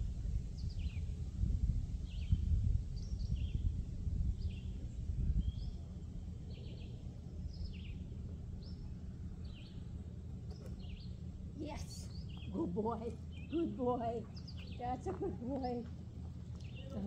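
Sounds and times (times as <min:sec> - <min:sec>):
low outdoor rumble: 0:00.0 - 0:17.0
birds chirping: 0:02.0 - 0:17.0.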